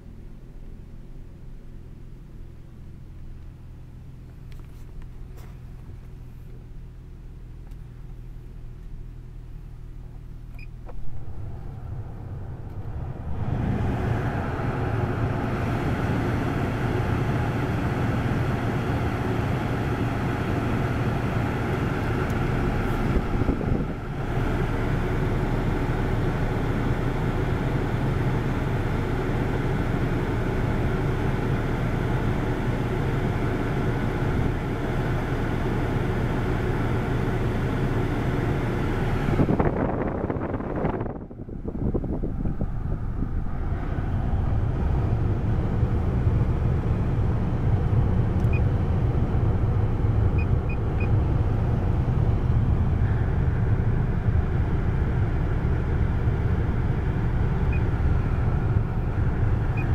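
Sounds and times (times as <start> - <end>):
car blower fan rushing air: 0.0 - 59.9
car engine idling hum: 0.0 - 59.9.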